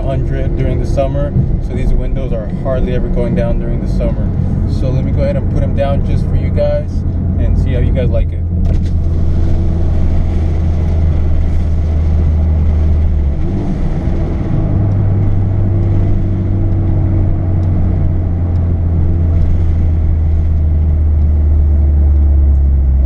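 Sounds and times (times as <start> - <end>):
car engine drone in cabin: 0.0 - 23.0.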